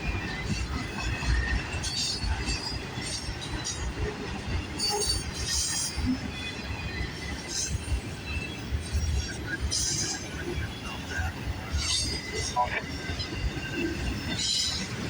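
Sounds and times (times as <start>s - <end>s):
freight train cars rumbling: 0.0s - 15.0s.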